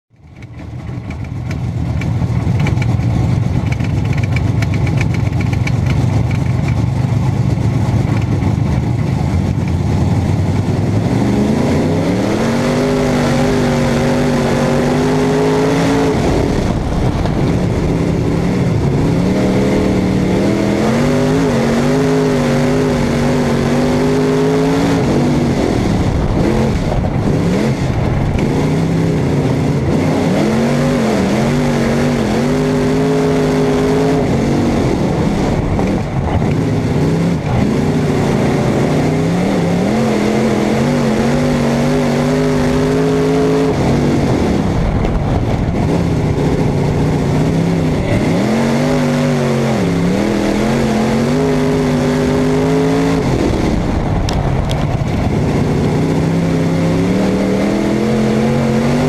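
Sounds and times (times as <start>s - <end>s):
race car engine: 0.1s - 59.0s.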